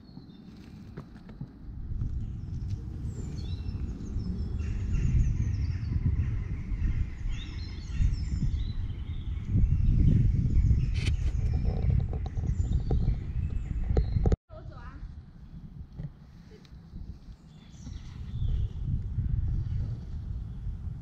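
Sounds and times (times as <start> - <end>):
songbirds chirping: 0.0 - 19.0
wind rumble on microphone: 0.0 - 21.0.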